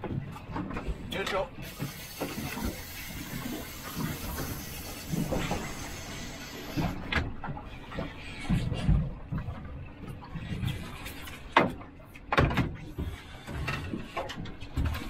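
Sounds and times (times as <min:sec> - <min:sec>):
choppy water around boat: 0:00.0 - 0:15.0
wind: 0:00.0 - 0:15.0.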